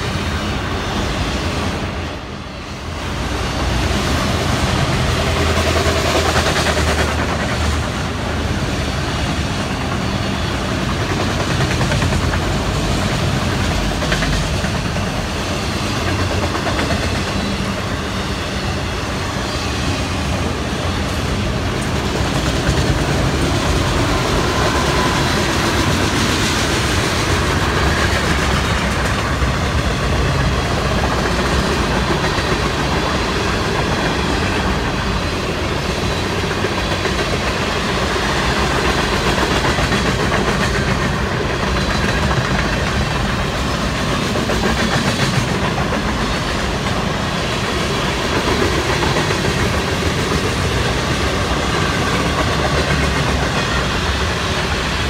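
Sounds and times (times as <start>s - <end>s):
freight train wheels rolling: 0.0s - 55.0s.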